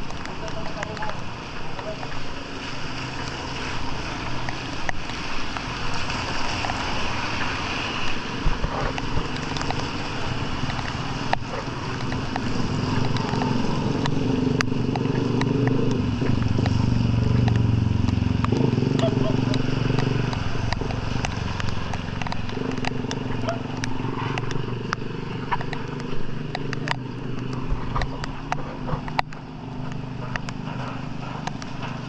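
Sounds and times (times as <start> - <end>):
light ticks: 0.0 - 2.3, 4.3 - 32.0
vehicle engine running: 0.0 - 32.0.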